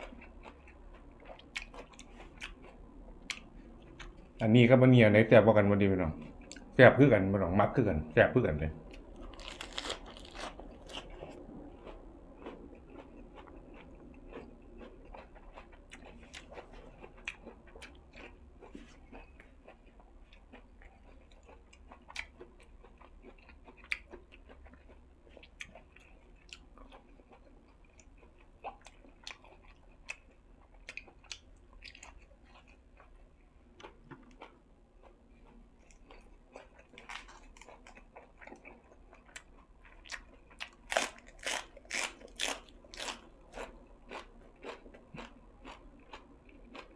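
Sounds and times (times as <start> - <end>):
person chewing crunchy food: 0.0 - 4.4, 8.8 - 46.9.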